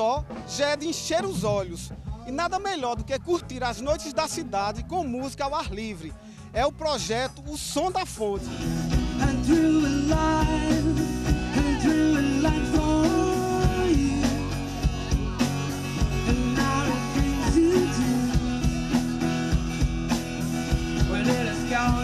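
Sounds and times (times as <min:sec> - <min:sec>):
band playing guitar and beat: 0:00.0 - 0:22.0.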